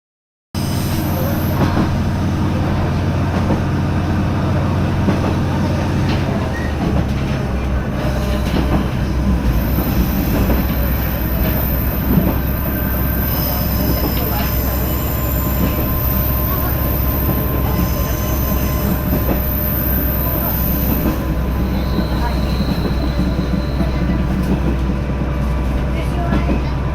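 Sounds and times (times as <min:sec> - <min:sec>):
railcar engine drone: 0:00.6 - 0:26.9.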